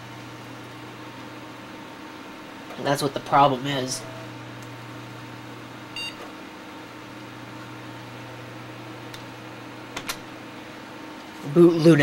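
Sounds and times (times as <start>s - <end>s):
computer fans humming: 0.0s - 12.0s.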